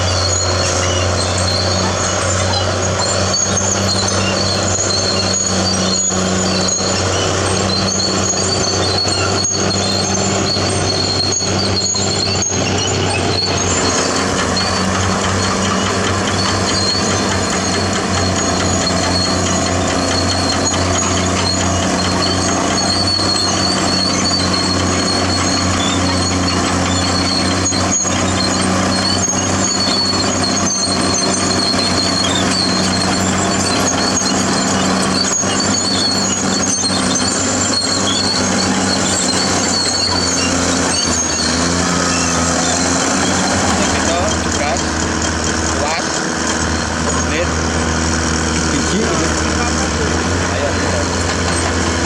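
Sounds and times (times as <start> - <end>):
bulldozer diesel engine running: 0.0 - 52.0
high-pitched squeaks: 0.0 - 52.0.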